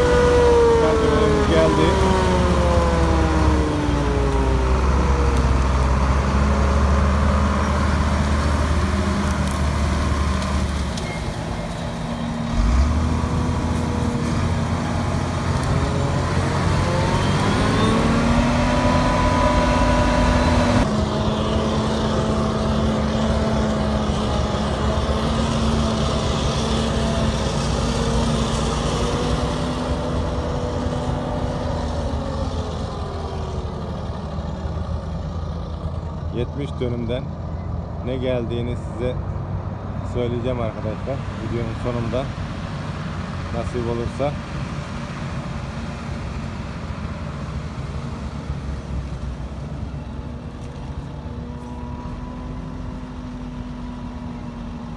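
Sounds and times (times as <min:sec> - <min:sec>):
forage harvester droning: 0:00.0 - 0:54.9.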